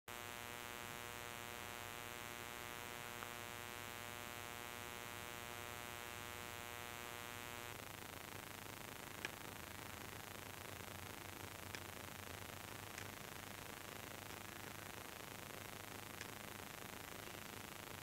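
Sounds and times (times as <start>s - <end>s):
faint electrical hum: 0.1s - 18.0s.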